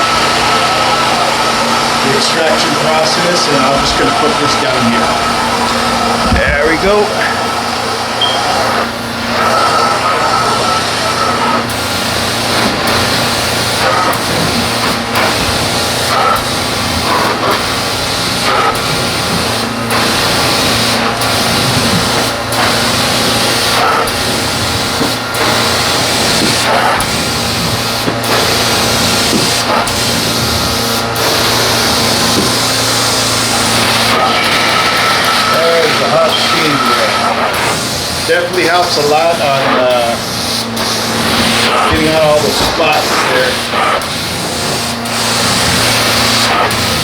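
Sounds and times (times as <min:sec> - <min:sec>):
carpet extraction vacuum rushing: 0:00.0 - 0:47.0.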